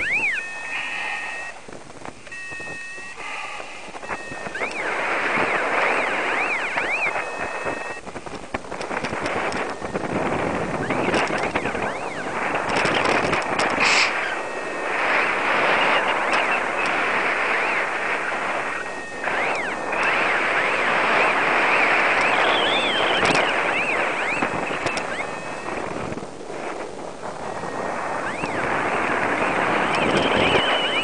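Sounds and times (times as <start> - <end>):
electronic variometer chirps: 0.0 - 31.0
wind rushing over microphone: 0.0 - 31.0.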